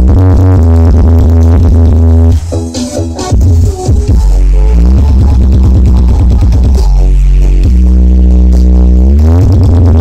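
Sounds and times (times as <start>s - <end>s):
electronic dance music with heavy bass: 0.0s - 10.0s.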